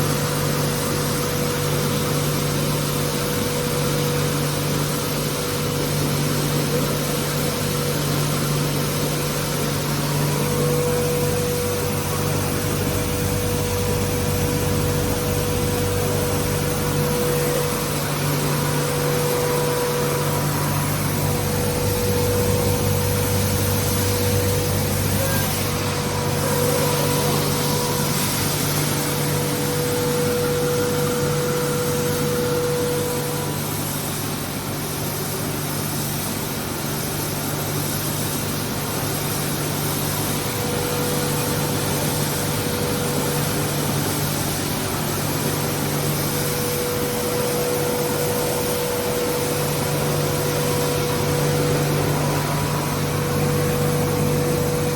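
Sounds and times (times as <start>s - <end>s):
grain mill machine hum: 0.0s - 54.9s
noisy hiss: 0.0s - 54.9s.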